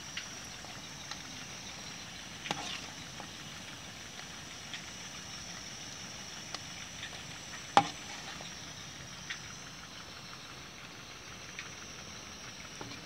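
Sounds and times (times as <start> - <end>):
food deep-frying sizzle: 0.0 - 13.0.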